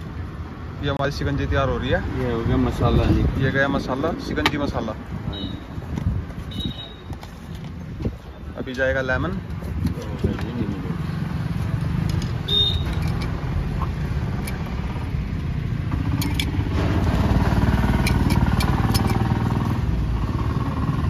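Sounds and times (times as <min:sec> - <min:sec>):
motor traffic rumble: 0:00.0 - 0:21.0.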